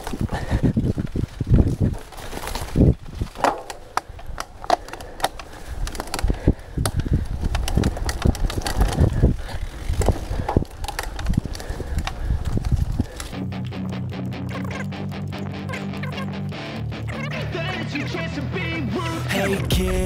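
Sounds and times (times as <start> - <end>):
bike rattling and knocking: 0.0 - 16.2
bike tyres rolling on dirt: 0.0 - 19.2.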